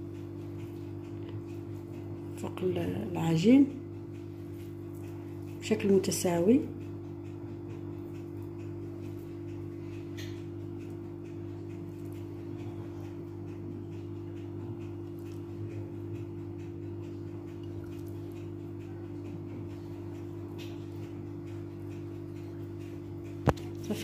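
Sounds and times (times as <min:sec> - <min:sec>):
electrical hum: 0:00.0 - 0:24.0
soft ticks: 0:00.0 - 0:24.0.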